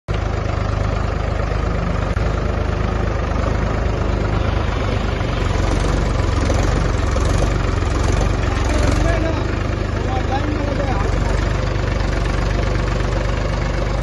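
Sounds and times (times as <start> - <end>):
tractor diesel engine running: 0.1 - 14.0.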